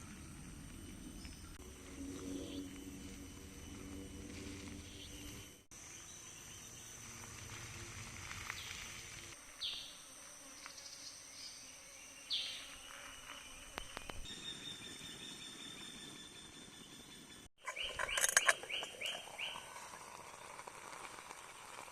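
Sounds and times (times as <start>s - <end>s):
insects droning: 0.0s - 21.9s.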